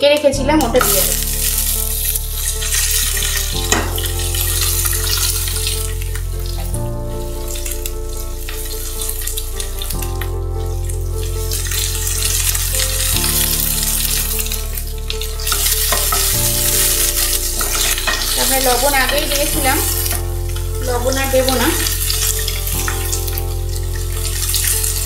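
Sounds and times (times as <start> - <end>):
background music of held chords: 0.2 - 25.0
food sizzling in hot oil: 0.6 - 25.0.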